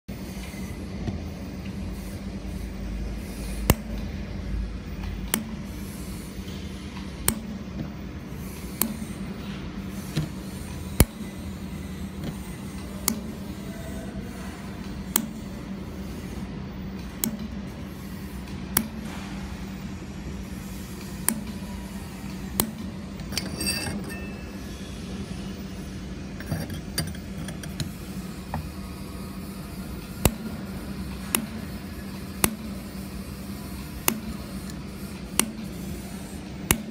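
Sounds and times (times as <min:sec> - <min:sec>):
laser welder hum and hiss: 0:00.1 - 0:36.9.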